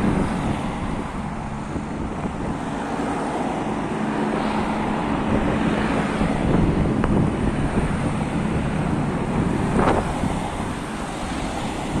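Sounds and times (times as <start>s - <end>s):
cars passing on street: 0.0s - 12.0s
wind buffeting microphone: 0.0s - 12.0s.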